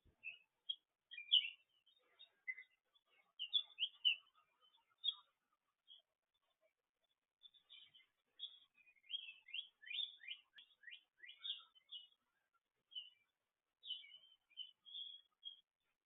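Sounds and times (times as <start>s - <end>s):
faint songbird chirping: 0.0s - 16.0s.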